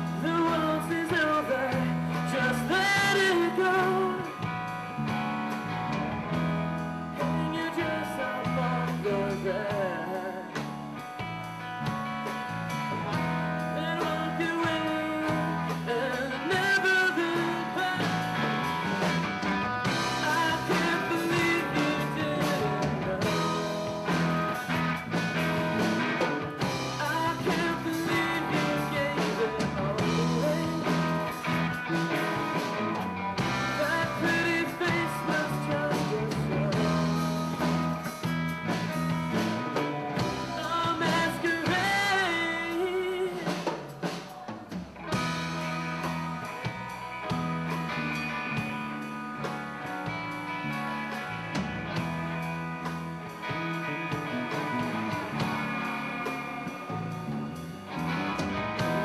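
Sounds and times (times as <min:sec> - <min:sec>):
bent lead guitar notes: 0:00.0 - 0:59.0
live rock band playing: 0:00.0 - 0:59.0.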